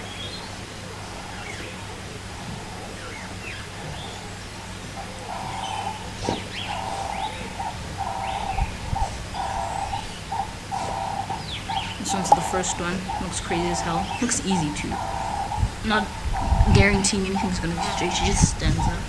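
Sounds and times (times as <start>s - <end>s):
bird's repeated call: 0.0s - 19.0s
wild birds chirping: 0.0s - 19.0s.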